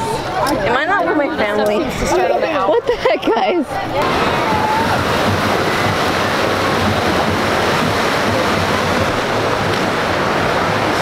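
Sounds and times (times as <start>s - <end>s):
churning whitewater: 0.0s - 11.0s.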